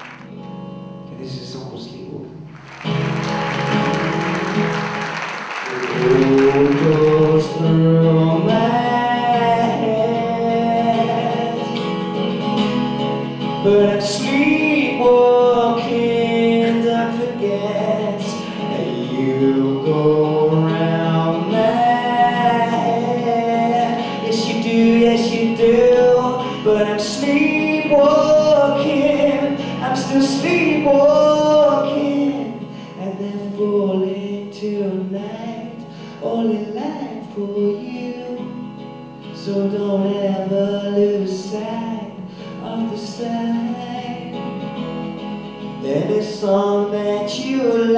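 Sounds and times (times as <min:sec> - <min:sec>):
acoustic guitar: 0:00.0 - 0:47.9
man singing: 0:05.6 - 0:12.0, 0:13.4 - 0:44.6, 0:45.7 - 0:47.9.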